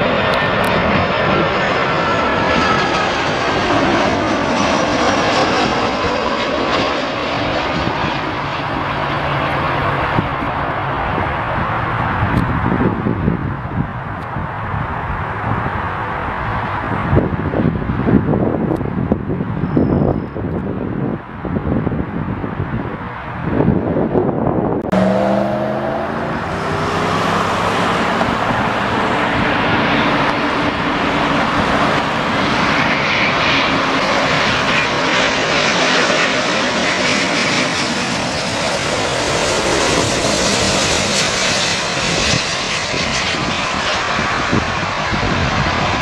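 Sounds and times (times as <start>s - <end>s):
jet aircraft flying low past: 0.0s - 46.0s.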